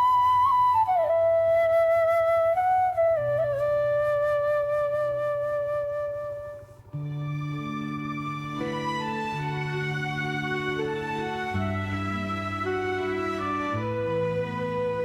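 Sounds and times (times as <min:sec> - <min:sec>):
flute slow melody: 0:00.0 - 0:15.0.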